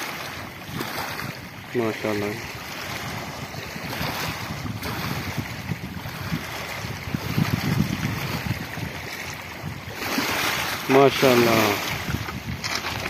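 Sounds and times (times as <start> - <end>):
waves lapping on pebbles: 0.0 - 13.0
wind buffeting microphone: 0.0 - 13.0.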